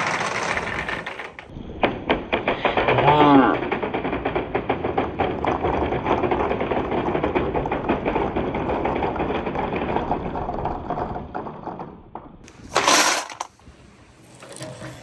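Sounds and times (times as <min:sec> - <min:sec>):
balls clattering on wooden board: 0:00.0 - 0:13.6.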